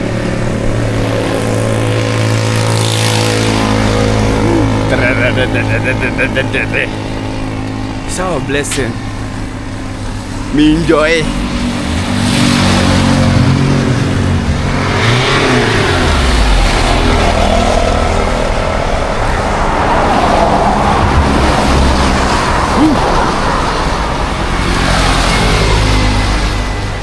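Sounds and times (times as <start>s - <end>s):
low engine hum: 0.0s - 27.0s
road traffic: 0.0s - 27.0s.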